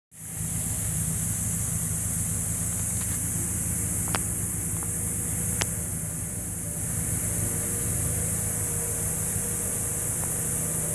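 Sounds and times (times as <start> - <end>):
high-pitched hiss: 0.2 - 10.9
low mechanical hum: 0.2 - 10.9.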